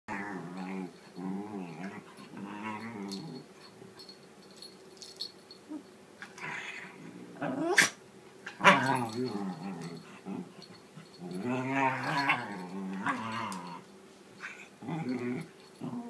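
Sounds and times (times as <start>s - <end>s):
dog moaning and grumbling: 0.1s - 3.7s, 5.7s - 16.0s.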